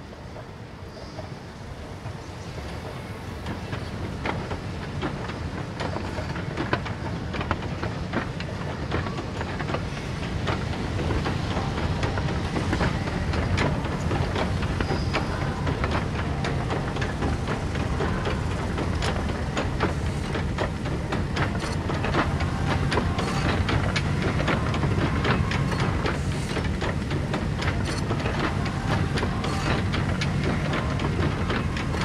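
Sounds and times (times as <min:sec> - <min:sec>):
irregular clicks and rattles: 0:03.4 - 0:32.0.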